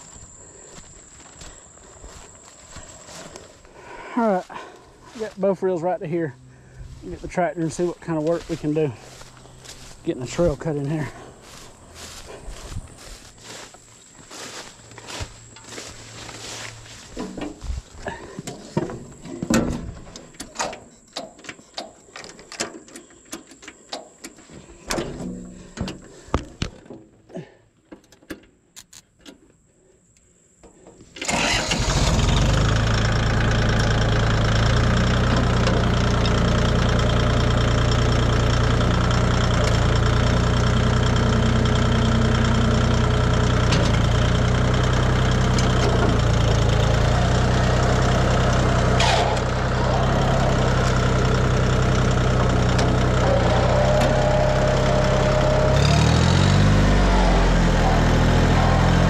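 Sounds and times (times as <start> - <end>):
tractor engine idling: 0.0 - 26.7, 30.8 - 59.0.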